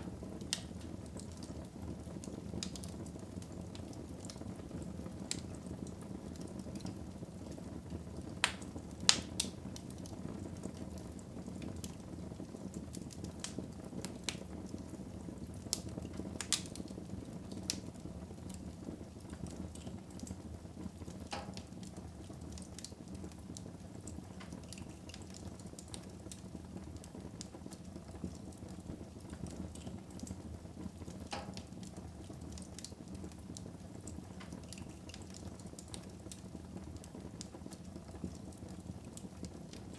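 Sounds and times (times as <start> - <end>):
fire crackles and pops: 0.0 - 39.9
low rush of flames: 0.0 - 39.9.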